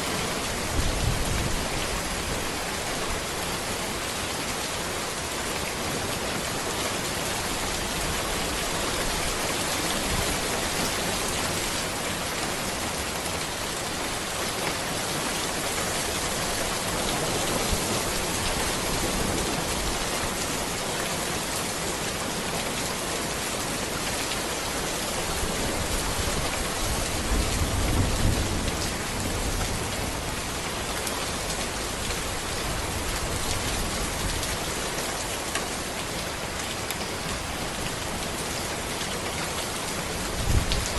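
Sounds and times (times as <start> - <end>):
rain falling on a road: 0.0 - 40.9.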